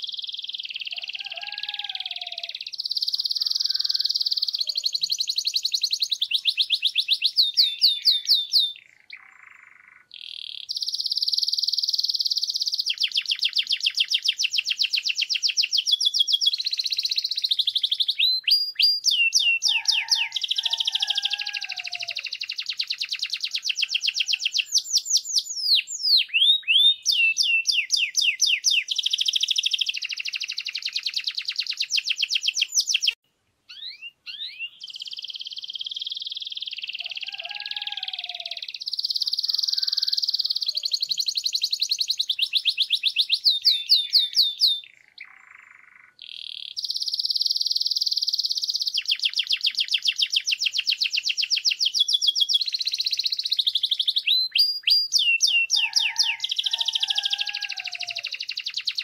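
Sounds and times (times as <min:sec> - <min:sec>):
canary singing fast trills: 0:00.0 - 0:59.0.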